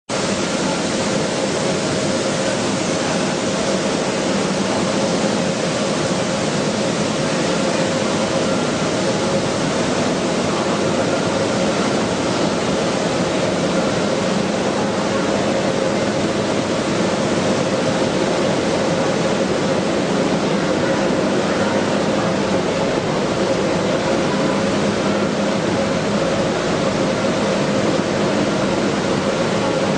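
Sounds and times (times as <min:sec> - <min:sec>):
flour mill machinery running: 0:00.1 - 0:29.9.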